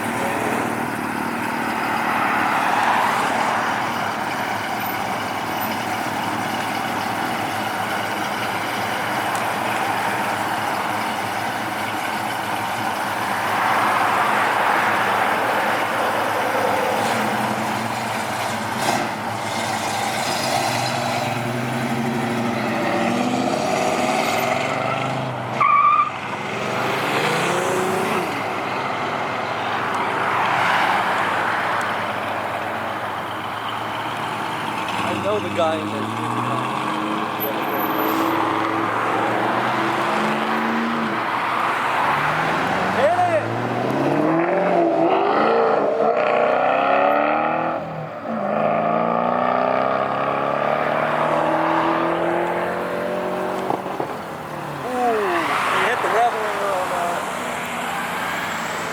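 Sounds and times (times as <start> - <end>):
cars driving past revving: 0.0 - 58.9.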